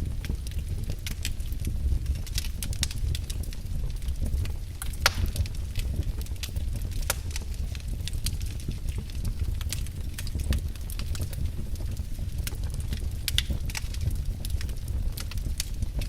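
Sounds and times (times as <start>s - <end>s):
fire crackling with pops: 0.0s - 16.0s
low rumble of flames: 0.0s - 16.0s.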